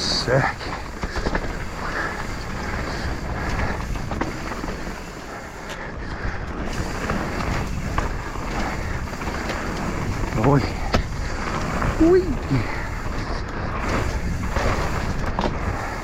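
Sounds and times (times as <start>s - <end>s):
bike knocking and rattling: 0.0s - 16.0s
bike tyres rolling on dirt: 0.0s - 16.0s
wind noise: 0.0s - 16.0s.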